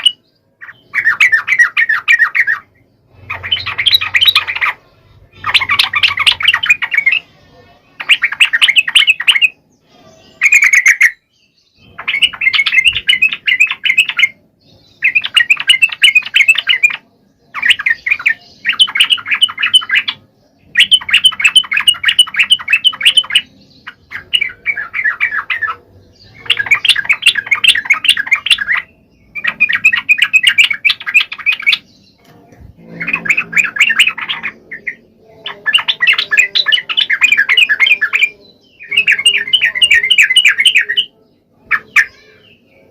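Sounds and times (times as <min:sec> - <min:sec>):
bird singing bubbling chatter: 0:00.0 - 0:42.9.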